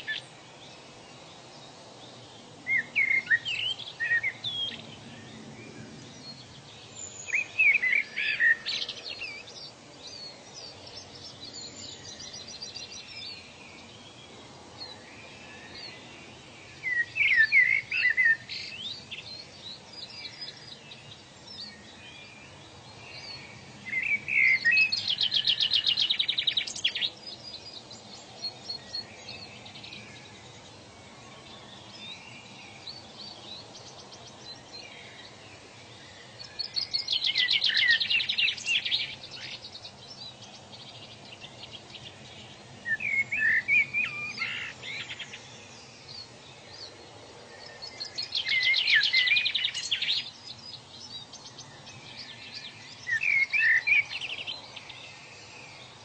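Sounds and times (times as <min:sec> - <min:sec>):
outdoor ambience hiss: 0:00.0 - 0:56.0
wild birds singing: 0:00.0 - 0:56.0.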